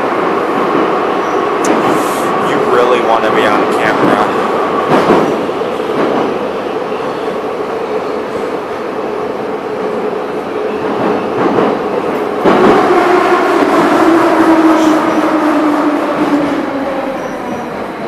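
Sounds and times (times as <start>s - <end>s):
subway train rumbling in tunnel: 0.0s - 18.0s.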